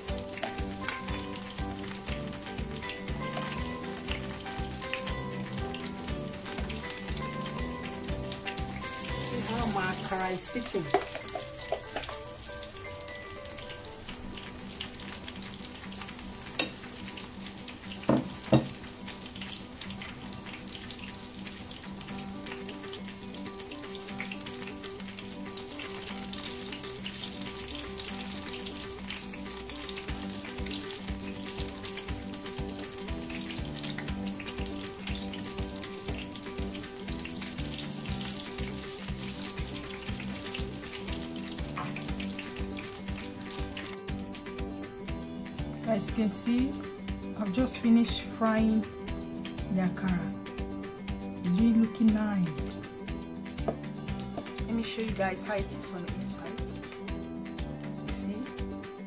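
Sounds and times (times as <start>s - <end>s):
oil sizzling: 0.0s - 59.0s.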